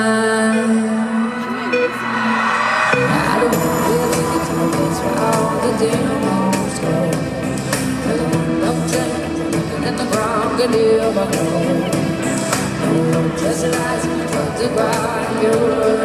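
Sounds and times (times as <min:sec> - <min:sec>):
live pop music with vocals: 0:00.0 - 0:16.0.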